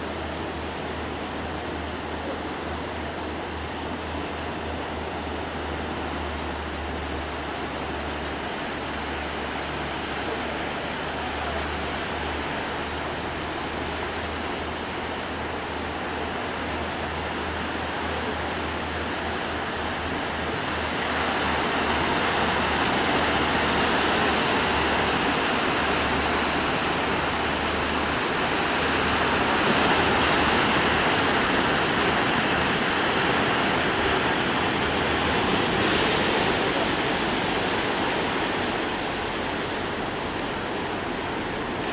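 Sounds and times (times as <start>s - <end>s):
boat engine running low: 0.0s - 41.9s
surf and rushing water: 0.0s - 41.9s.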